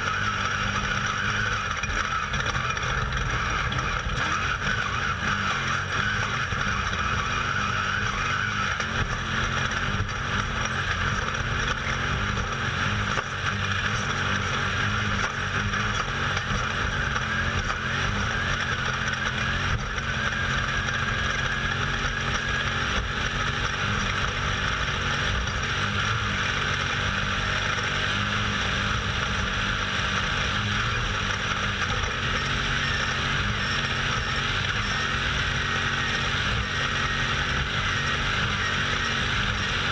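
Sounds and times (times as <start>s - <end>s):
race vehicle engine running hard: 0.0s - 39.9s
terrain noise: 0.0s - 39.9s.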